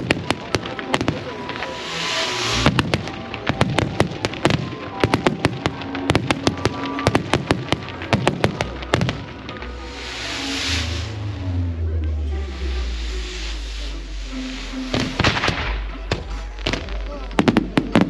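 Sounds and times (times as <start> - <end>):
fireworks cracks and bangs: 0.0 - 11.4, 14.5 - 18.0.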